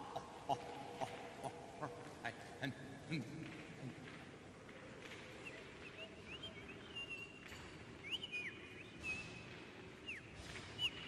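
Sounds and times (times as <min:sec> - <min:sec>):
faint low background noise: 0:00.0 - 0:11.0.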